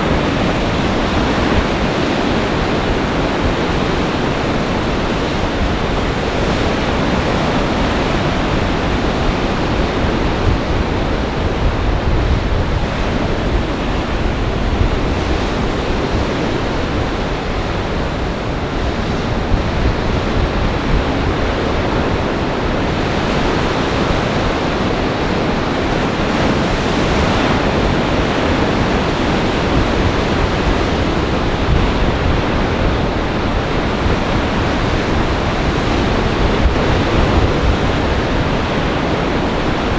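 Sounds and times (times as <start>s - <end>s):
heavy surf breaking: 0.0s - 39.9s
wind buffeting microphone: 0.0s - 39.9s.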